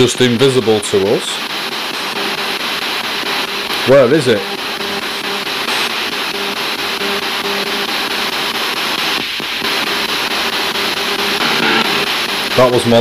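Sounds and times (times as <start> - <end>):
radio static hiss chopped: 0.0 - 13.0
broken snatches of tone: 1.4 - 13.0.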